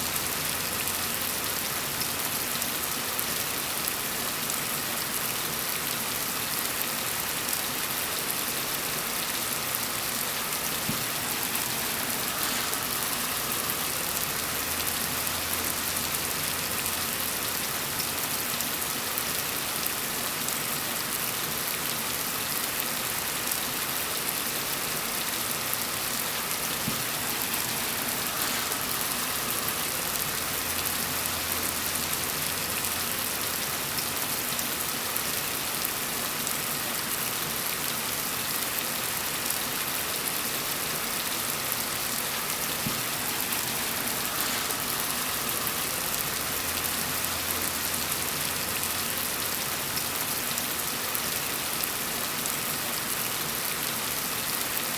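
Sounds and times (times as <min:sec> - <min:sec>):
gentle rain falling: 0:00.0 - 0:54.9.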